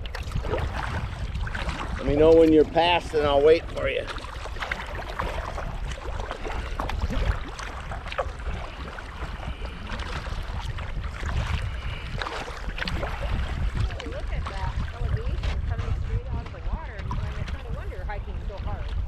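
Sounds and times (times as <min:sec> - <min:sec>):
paddle splashes and drips: 0:00.0 - 0:19.0
water lapping at hull: 0:00.0 - 0:19.0
wind rumble on microphone: 0:00.0 - 0:19.0.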